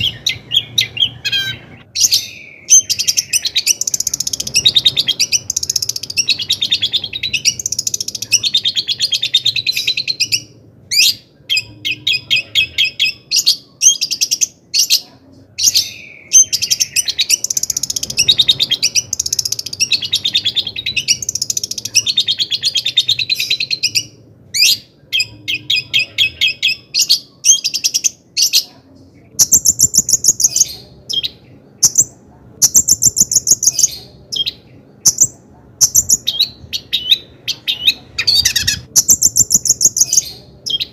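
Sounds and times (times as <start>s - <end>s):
shrike singing chattering song: 0.0s - 40.9s.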